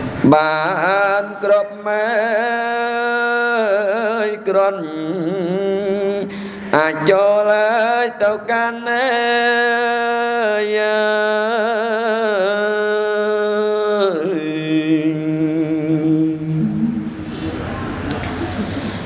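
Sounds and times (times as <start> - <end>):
man chanting: 0.2 - 17.1.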